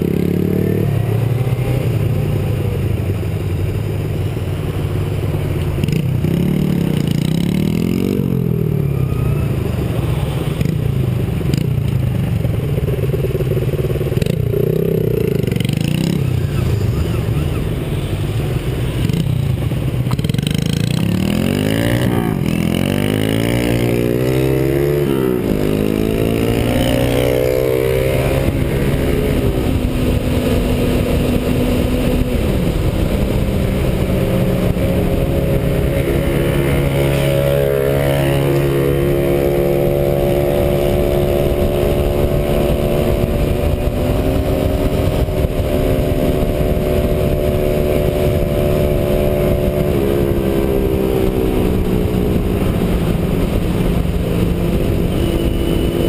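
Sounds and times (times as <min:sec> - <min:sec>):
motorcycle engine shifting gears: 0:00.0 - 0:56.0
wind on microphone: 0:05.3 - 0:56.0.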